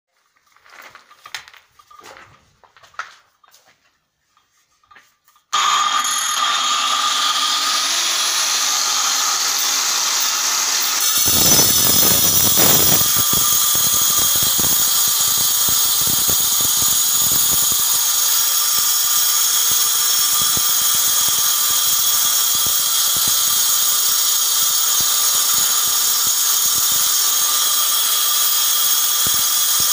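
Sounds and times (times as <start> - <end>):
saw grinding into stone: 5.4 - 29.9
electric saw whining: 5.5 - 29.9.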